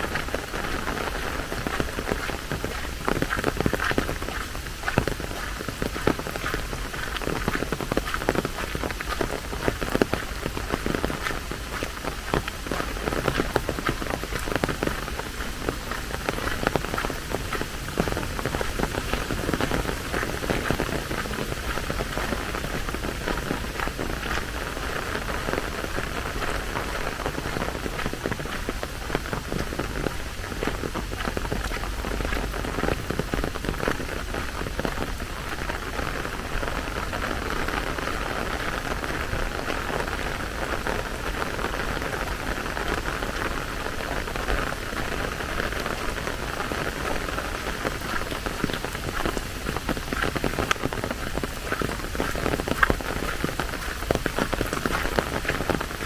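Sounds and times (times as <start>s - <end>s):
rain falling: 0.0s - 56.0s
raindrops pattering: 0.0s - 56.0s.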